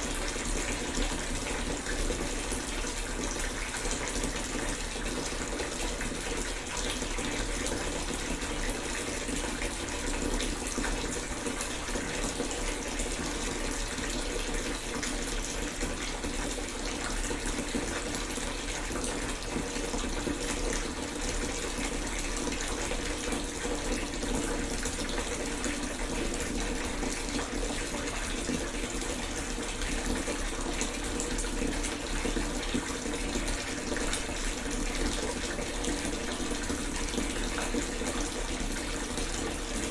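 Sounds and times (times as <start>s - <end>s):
water pouring into a tub: 0.0s - 39.9s.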